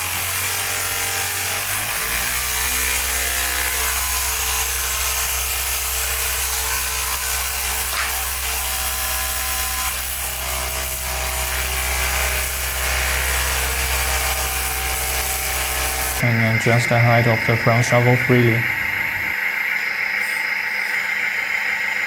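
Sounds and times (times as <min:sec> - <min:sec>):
vibration motor buzzing: 0:00.0 - 0:22.0
oil pump motor hum: 0:01.4 - 0:22.0.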